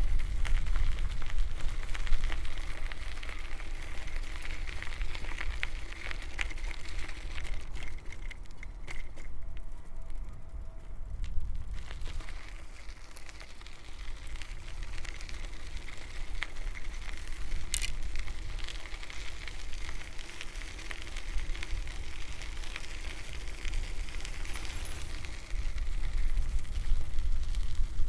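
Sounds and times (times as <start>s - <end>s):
bicycle tyres rolling over gravel: 0.0s - 28.0s
wind rumble on microphone: 0.0s - 28.0s.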